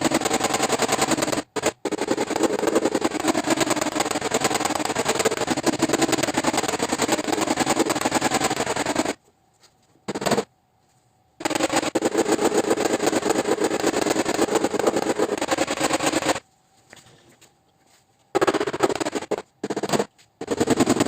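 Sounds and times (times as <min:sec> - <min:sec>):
rapid machine-fast tapping: 0:00.0 - 0:09.2, 0:10.1 - 0:10.5, 0:11.4 - 0:16.4, 0:18.3 - 0:21.0.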